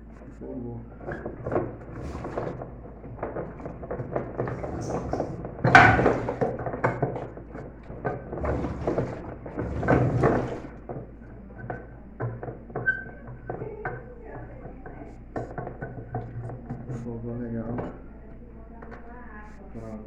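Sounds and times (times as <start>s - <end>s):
metal clatter: 1.0s - 17.0s.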